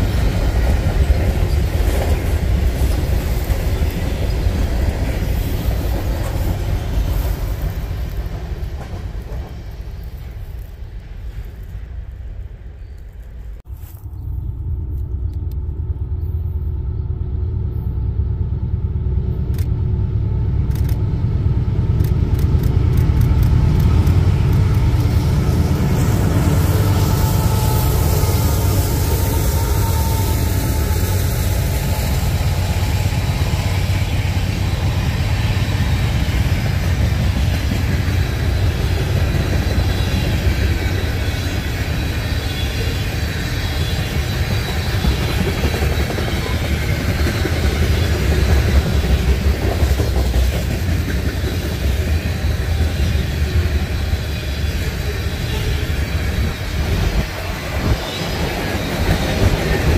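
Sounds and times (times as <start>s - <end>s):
diesel locomotives rumbling: 0.0s - 59.9s.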